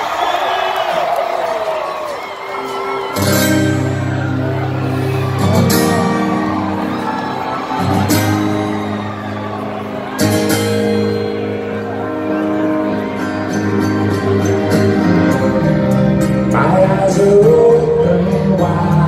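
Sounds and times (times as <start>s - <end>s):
live rock band playing: 2.2s - 19.0s.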